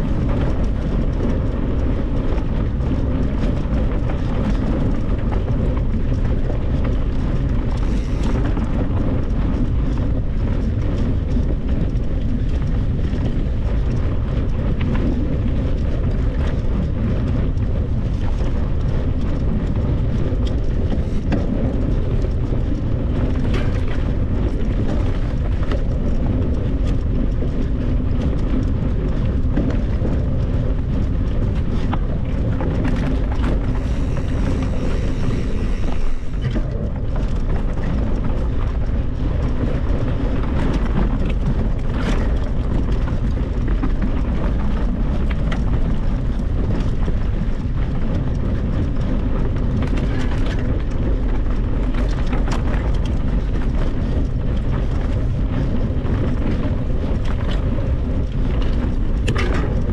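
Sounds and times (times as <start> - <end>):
low rumble: 0.0 - 59.9
wind buffeting microphone: 0.0 - 59.9.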